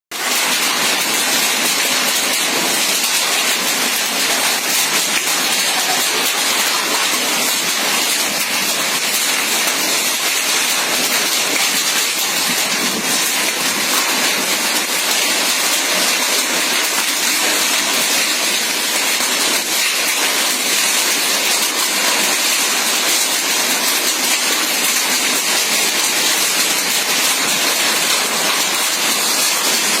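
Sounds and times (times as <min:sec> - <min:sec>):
hail and heavy rain pelting: 0:00.1 - 0:30.0.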